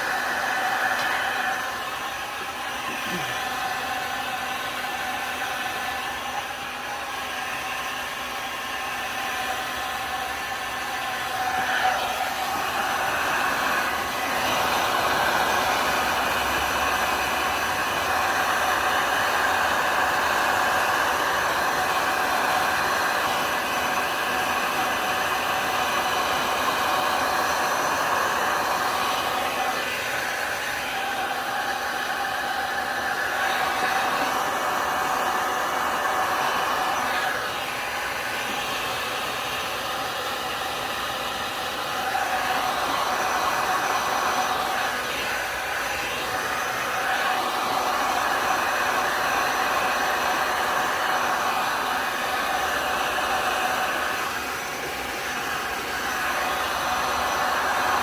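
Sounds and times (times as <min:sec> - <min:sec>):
heat gun whirring: 0:00.0 - 0:58.0.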